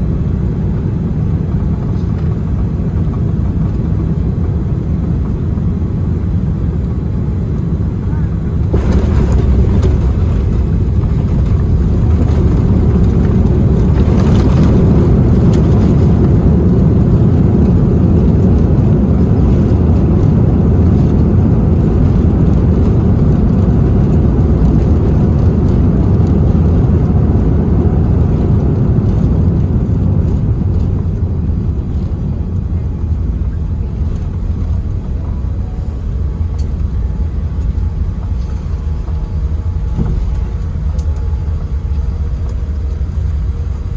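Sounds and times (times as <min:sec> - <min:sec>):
airplane landing rumble: 0:00.0 - 0:43.9.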